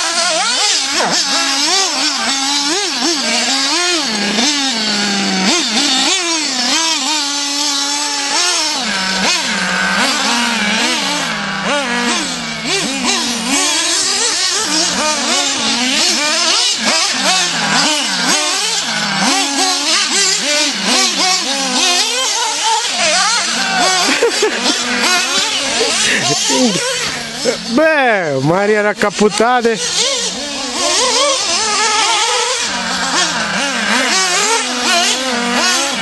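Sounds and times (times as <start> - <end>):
engine revving up and down: 0.0 - 36.0.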